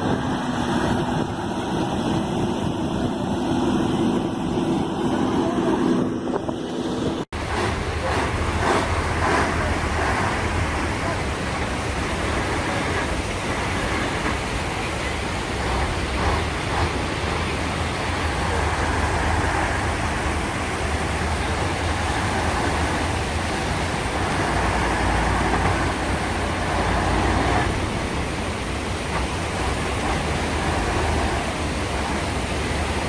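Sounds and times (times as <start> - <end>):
rushing noise: 0.0 - 33.0
truck engine low rumble: 0.0 - 33.0.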